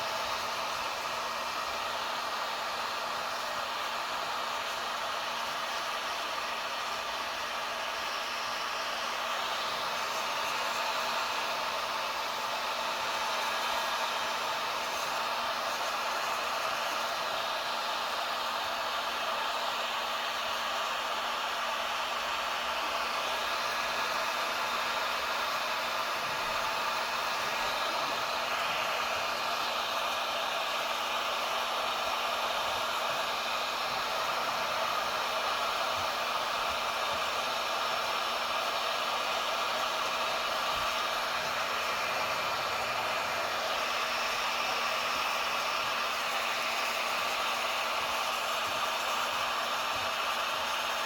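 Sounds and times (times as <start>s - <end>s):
heat gun blowing: 0.0s - 51.0s.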